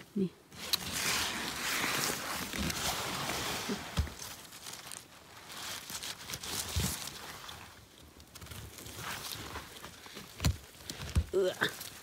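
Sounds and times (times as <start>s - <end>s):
rustling and crinkling handling noise: 0.5s - 12.0s.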